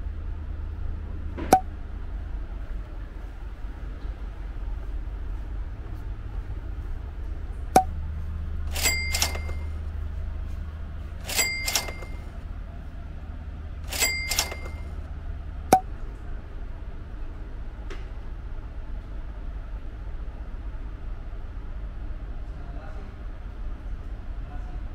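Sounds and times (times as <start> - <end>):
ship engines droning: 0.0 - 24.4.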